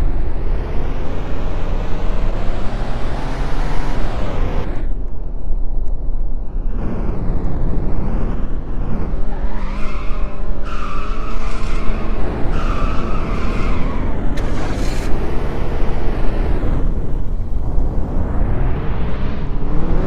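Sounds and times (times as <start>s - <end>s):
motor vehicle noise: 0.0s - 20.0s.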